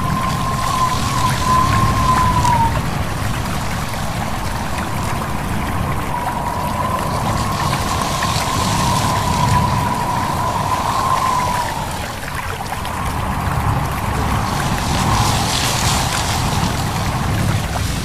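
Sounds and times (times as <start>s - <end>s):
thin wavering whistle: 0.0s - 17.4s
steady low rumble: 0.0s - 18.0s
stream water trickling: 0.0s - 18.0s.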